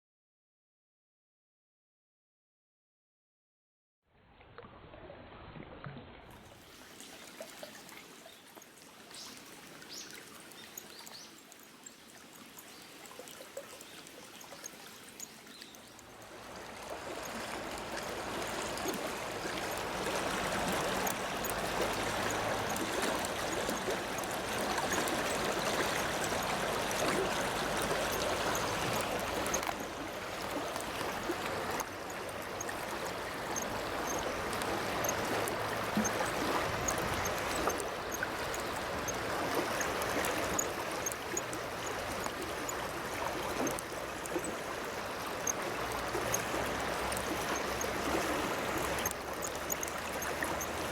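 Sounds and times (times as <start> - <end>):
small ticks and splashes: 6.3 - 50.9
water rushing: 6.3 - 50.9.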